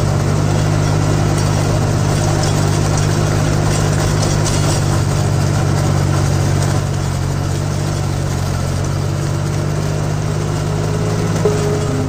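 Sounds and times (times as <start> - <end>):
rotary tiller working soil: 0.0 - 12.0
tractor engine under load: 0.0 - 12.0.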